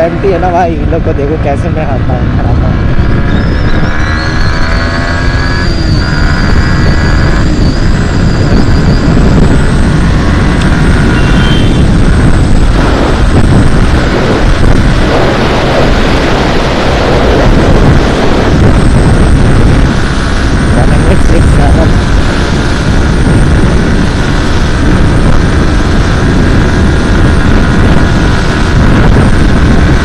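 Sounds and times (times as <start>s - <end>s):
motorcycle engine accelerating: 0.0s - 30.0s
wind rush over microphone: 0.0s - 30.0s.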